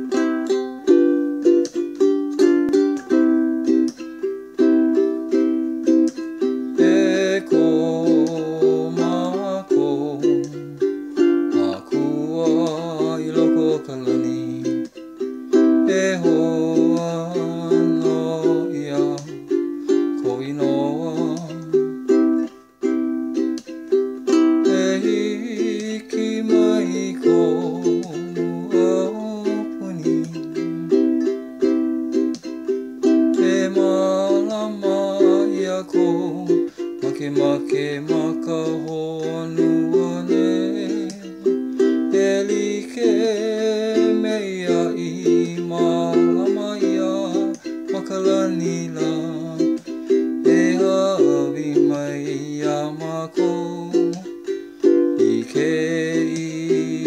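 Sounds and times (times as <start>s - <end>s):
ukulele strumming: 0.0s - 57.0s.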